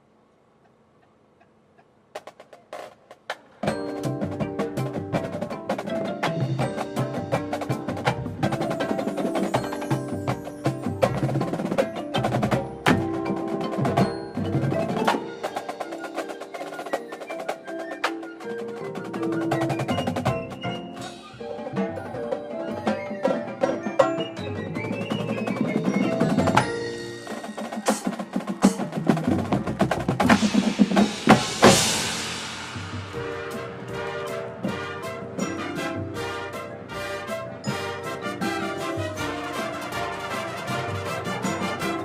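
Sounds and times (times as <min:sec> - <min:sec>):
snare drum: 0:02.2 - 0:42.0
mallet instruments: 0:03.6 - 0:42.0.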